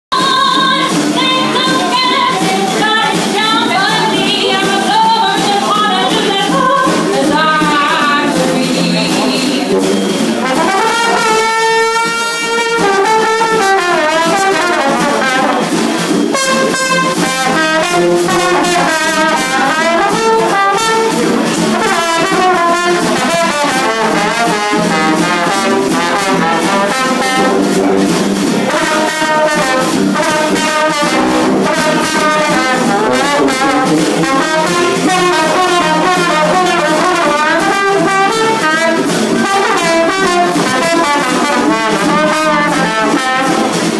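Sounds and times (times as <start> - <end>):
brass melody: 0.1 - 43.9
drum kit with cymbals: 0.1 - 43.9.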